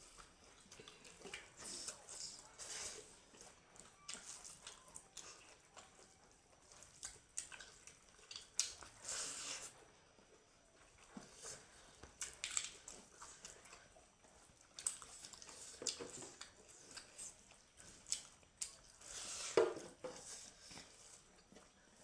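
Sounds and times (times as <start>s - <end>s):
person chewing with crunches: 0.0s - 22.0s.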